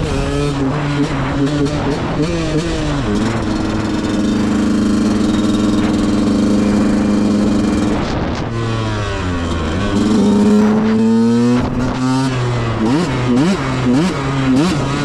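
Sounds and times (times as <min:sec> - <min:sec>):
two-stroke motorcycle engine: 0:00.0 - 0:15.0.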